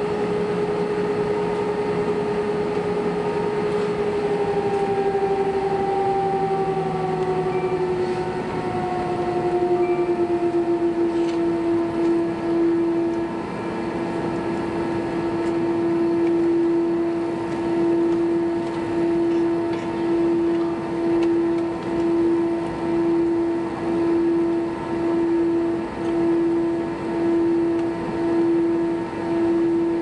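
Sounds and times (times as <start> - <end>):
jet engines idling in cabin: 0.0 - 30.0.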